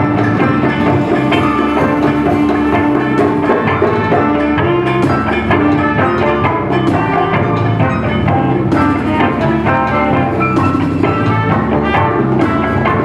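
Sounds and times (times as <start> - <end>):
drum kit: 0.0 - 13.0
electric guitar: 0.0 - 13.0
saxophone: 0.0 - 13.0
trumpet: 0.0 - 13.0.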